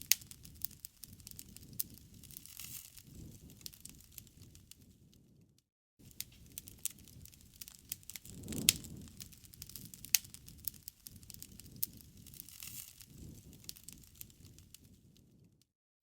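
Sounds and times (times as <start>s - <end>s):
low rush of flames: 0.0s - 5.1s, 6.0s - 15.5s
campfire snaps and pops: 0.0s - 5.3s, 6.0s - 15.5s.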